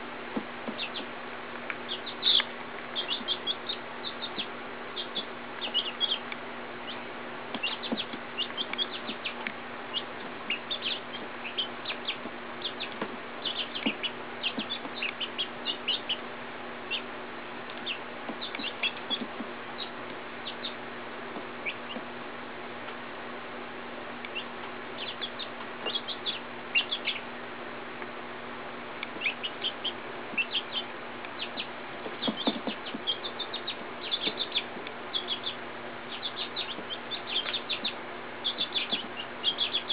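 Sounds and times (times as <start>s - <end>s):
steady background hum: 0.0s - 39.9s
chicks peeping: 0.4s - 22.2s, 24.2s - 27.4s, 29.0s - 39.9s.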